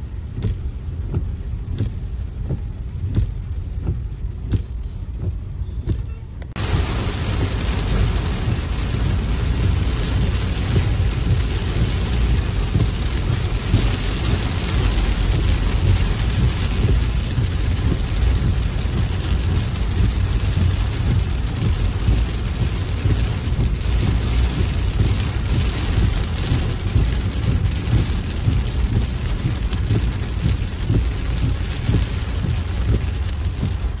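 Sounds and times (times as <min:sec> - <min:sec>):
heavy rain on car roof: 0:00.0 - 0:34.0
low rumble: 0:00.0 - 0:34.0.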